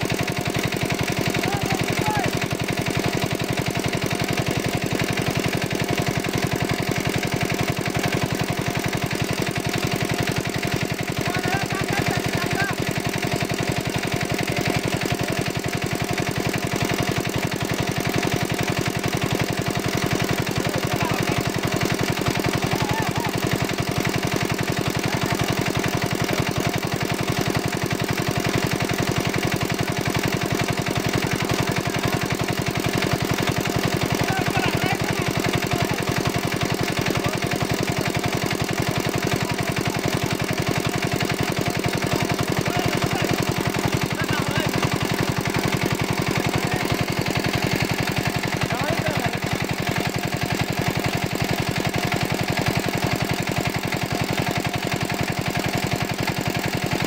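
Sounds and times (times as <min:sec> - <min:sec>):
small pump engine chugging: 0:00.0 - 0:57.0.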